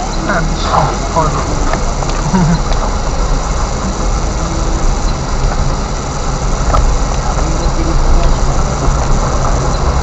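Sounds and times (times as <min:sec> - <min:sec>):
car driving on dirt road: 0:00.0 - 0:10.0.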